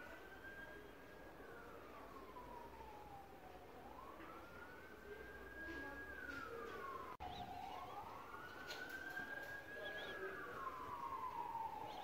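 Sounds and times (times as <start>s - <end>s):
faint siren wailing: 0.0s - 12.0s.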